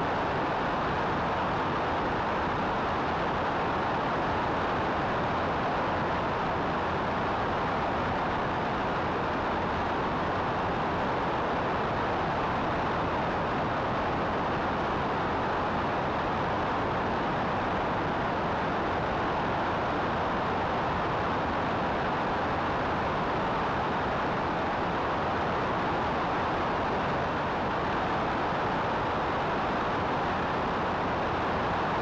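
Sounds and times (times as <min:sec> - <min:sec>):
aircraft engine and propeller drone: 0:00.0 - 0:32.0.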